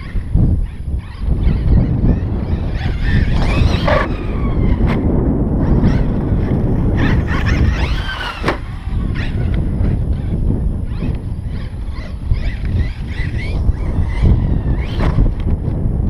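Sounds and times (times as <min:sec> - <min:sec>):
rc truck motor whining: 0:00.0 - 0:16.0
wind rumble on microphone: 0:00.0 - 0:16.0.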